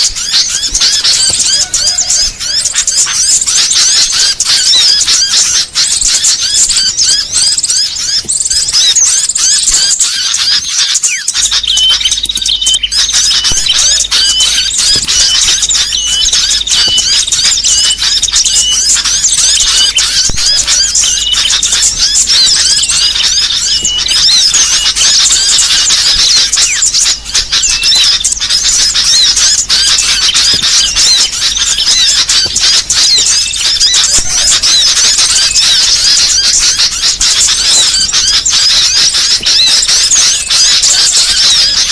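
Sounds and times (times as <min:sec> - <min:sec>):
sharp repeating bird chirp: 0:00.0 - 0:41.9
songbirds chirping and twittering: 0:00.0 - 0:41.9.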